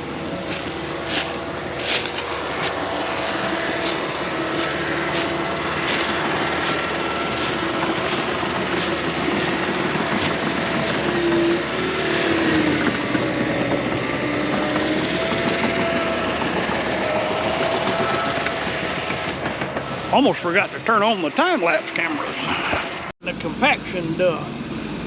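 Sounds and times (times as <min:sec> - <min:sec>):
bulldozer engine whine: 0:00.0 - 0:25.0.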